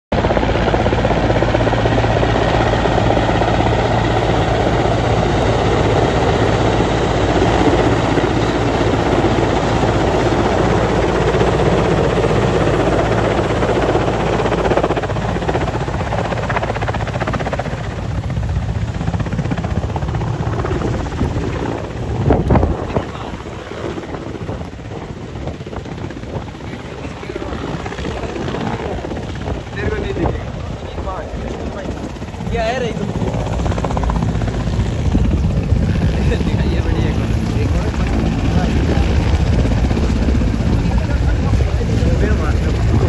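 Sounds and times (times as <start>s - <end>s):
helicopter rotor and engine: 0.1s - 43.0s.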